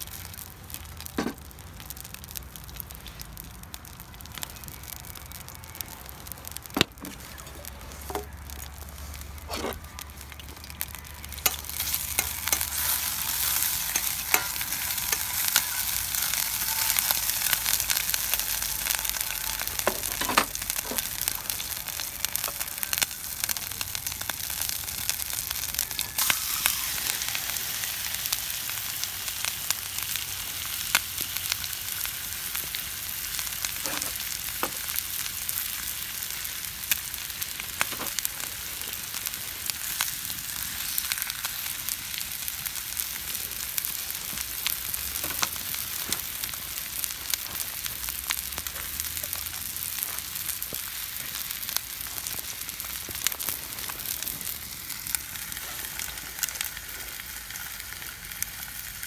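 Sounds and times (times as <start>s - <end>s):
pops and crackles: 0.0s - 59.0s
food sizzling in a pan: 7.0s - 59.0s.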